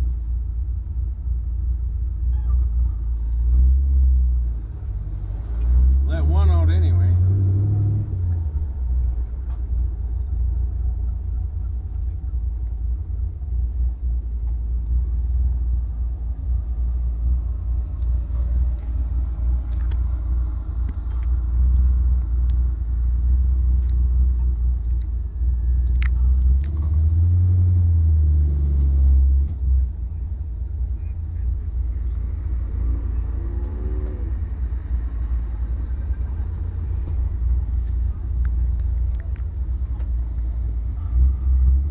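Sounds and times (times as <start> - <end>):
car engine deep rumble: 0.0 - 41.9.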